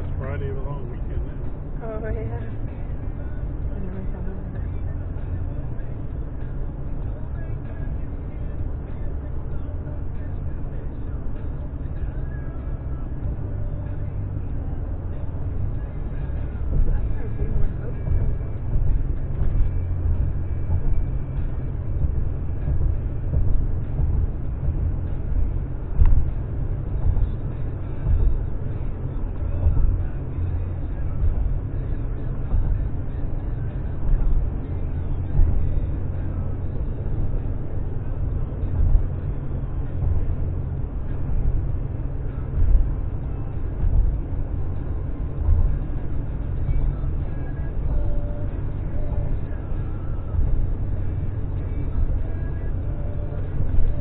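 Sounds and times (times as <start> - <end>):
car cabin road rumble: 0.0 - 54.0
wind: 0.0 - 54.0.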